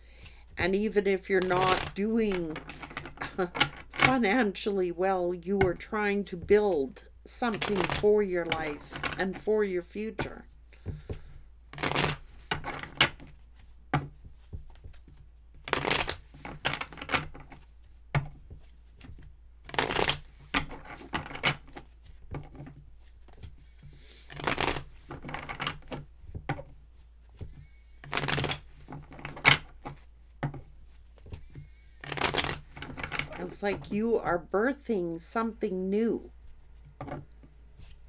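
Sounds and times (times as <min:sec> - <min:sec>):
cards being shuffled: 0:00.0 - 0:04.8, 0:05.5 - 0:34.2, 0:36.1 - 0:38.0.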